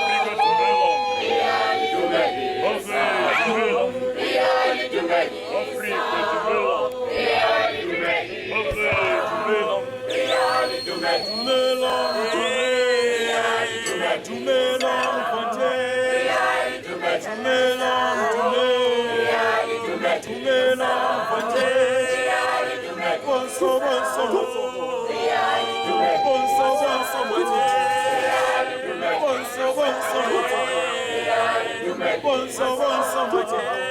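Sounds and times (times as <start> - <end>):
group singing in harmony: 0.0 - 33.9.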